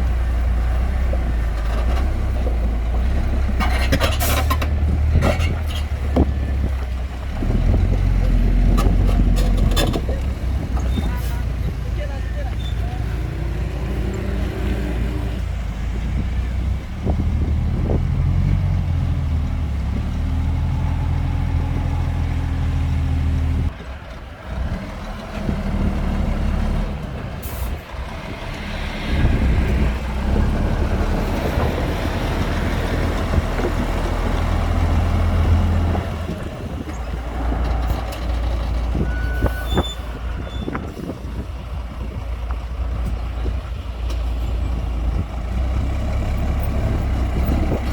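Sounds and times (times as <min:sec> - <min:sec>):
dump truck diesel engine: 0:00.0 - 0:47.9.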